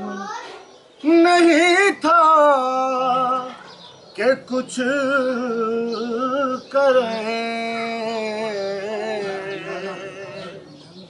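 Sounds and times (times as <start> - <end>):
man singing unaccompanied: 1.0 - 10.9.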